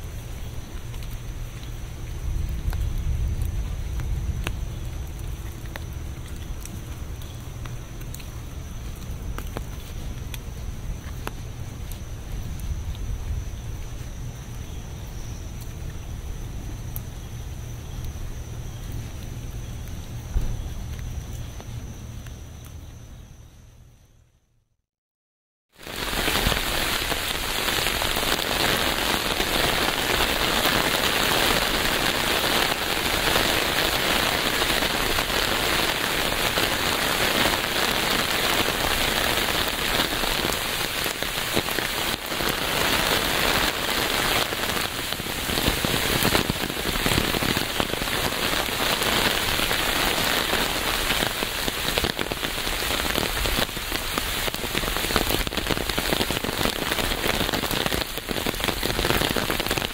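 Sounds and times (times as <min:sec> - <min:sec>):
dense rain falling: 0:00.0 - 0:22.8, 0:25.7 - 0:59.9.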